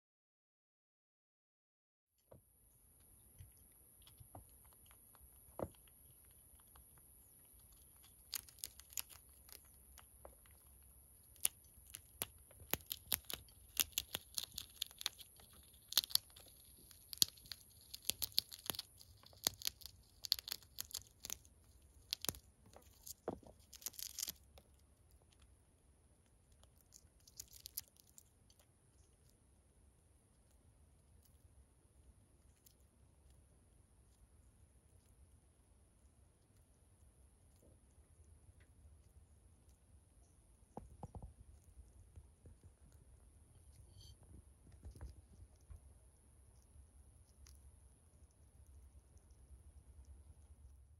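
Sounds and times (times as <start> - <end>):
chipmunk gnawing peanut shell: 2.8 - 50.9.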